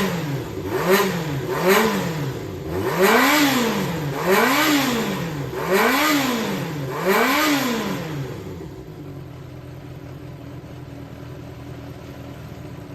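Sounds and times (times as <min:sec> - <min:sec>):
motorcycle engine revving and idling: 0:00.0 - 0:12.9.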